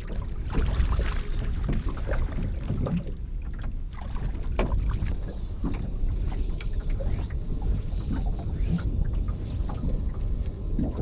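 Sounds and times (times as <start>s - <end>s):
low wind rumble: 0.0s - 11.0s
water lapping against hull: 0.0s - 11.0s.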